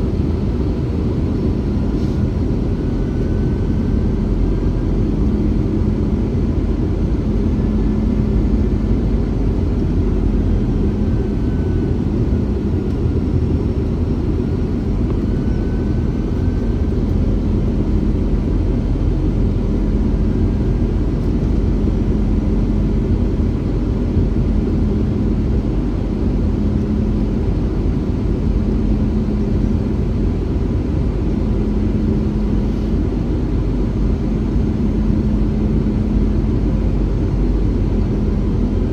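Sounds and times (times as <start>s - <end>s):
airliner engines: 0.0s - 38.9s
low hum: 0.0s - 38.9s.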